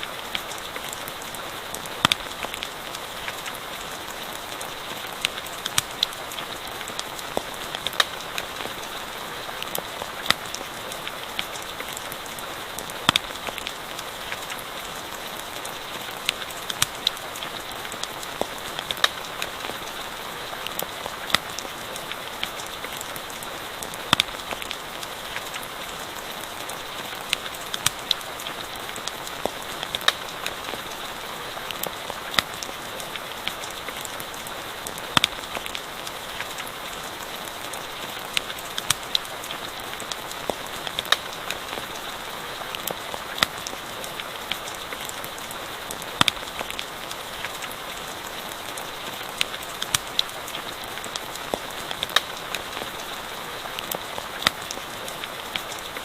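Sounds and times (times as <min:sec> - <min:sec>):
campfire crackling: 0:00.0 - 0:56.0
steady rain hissing: 0:00.0 - 0:56.0.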